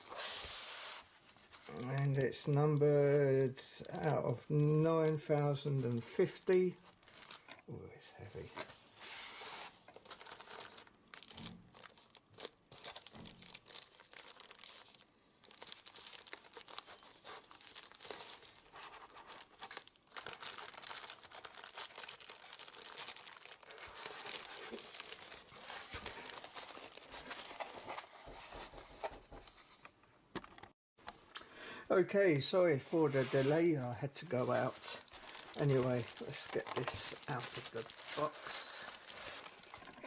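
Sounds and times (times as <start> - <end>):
packing material crinkling and tearing: 0.0 - 7.6, 8.2 - 29.6, 34.2 - 40.0.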